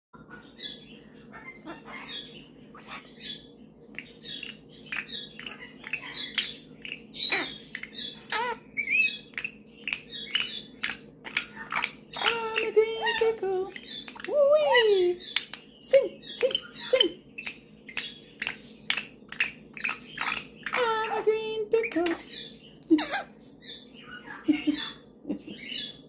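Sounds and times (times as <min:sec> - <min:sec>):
parrot chirps and squawks: 0:00.2 - 0:15.6, 0:16.2 - 0:26.0.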